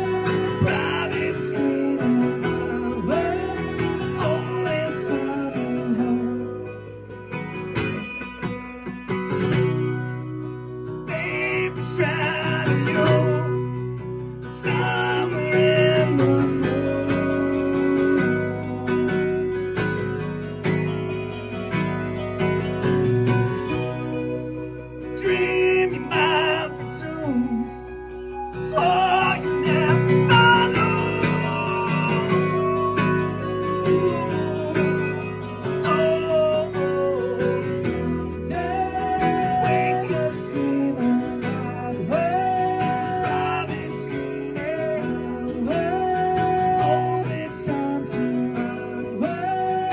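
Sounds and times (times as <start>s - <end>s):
man singing: 0.0s - 7.1s, 11.0s - 19.6s, 23.8s - 49.9s
small live band playing: 0.0s - 49.9s
strummed acoustic guitars: 0.0s - 49.9s.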